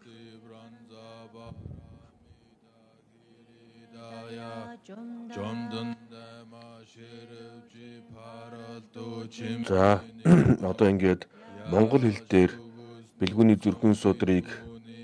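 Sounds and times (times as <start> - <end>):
low monotone chanting: 0.0 - 15.0.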